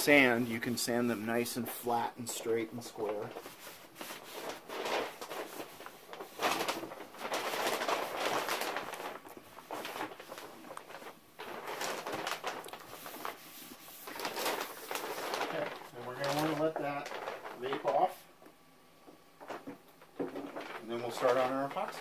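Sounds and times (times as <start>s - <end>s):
paper towel rubbing on plastic: 0.0s - 18.3s, 20.4s - 22.0s.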